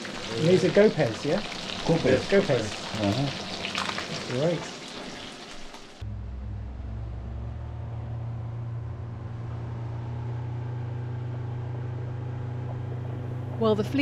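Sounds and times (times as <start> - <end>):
boat engine droning: 0.0 - 3.6, 6.0 - 14.0.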